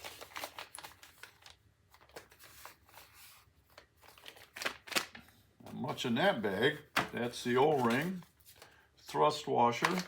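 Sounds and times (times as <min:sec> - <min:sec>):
plastic bags rustling: 0:00.0 - 0:10.0.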